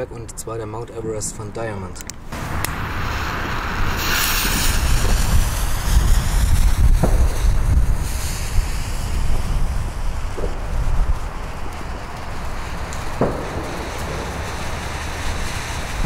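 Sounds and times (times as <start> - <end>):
wind rumbling on microphone: 2.1 - 16.0
firework fountain hissing: 2.3 - 16.0.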